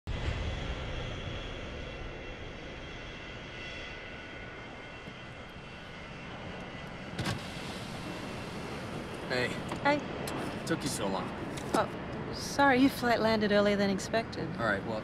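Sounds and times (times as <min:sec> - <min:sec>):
jet aircraft engine noise: 0:00.1 - 0:15.0.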